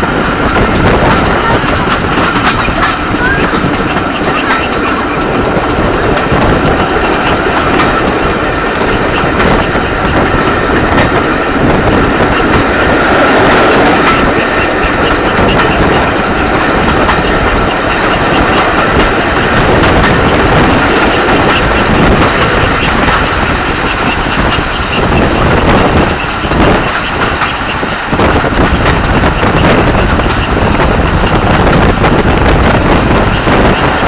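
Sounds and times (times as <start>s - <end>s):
train wheel and running noise: 0.0s - 34.0s
wind on microphone: 0.0s - 34.0s.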